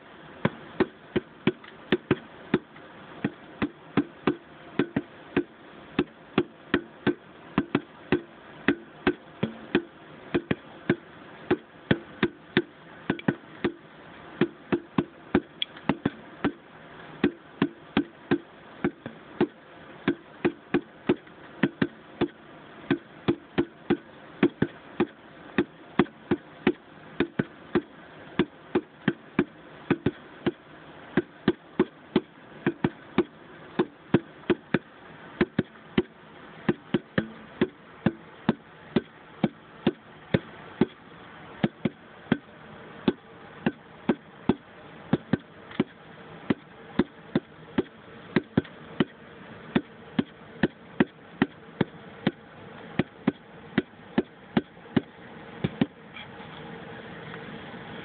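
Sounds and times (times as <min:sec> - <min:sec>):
faint steady buzz: 0:00.0 - 0:58.0.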